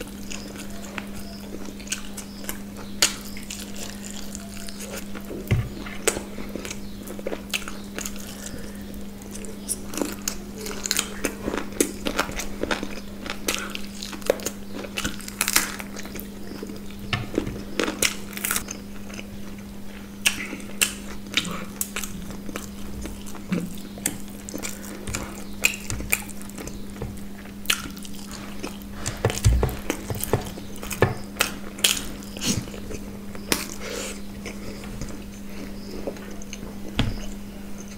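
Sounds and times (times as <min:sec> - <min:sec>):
biting and chewing: 0:00.0 - 0:37.9
steady low hum: 0:00.0 - 0:37.9.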